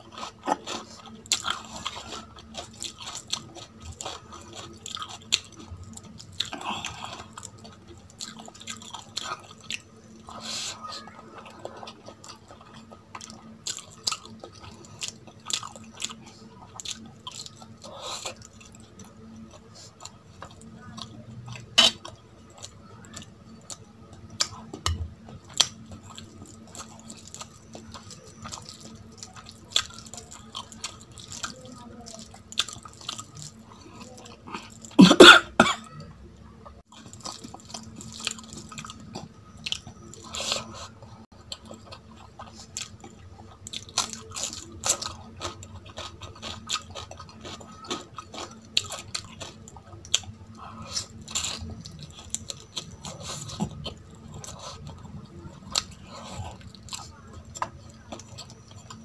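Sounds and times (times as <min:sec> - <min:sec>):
person chewing food: 0:00.0 - 0:35.6, 0:36.8 - 0:59.0.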